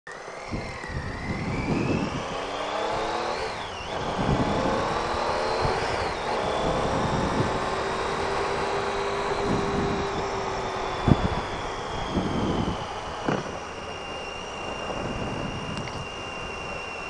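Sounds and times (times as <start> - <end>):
motorcycle engine accelerating: 0.2 - 17.0
wind rumble: 0.4 - 17.0.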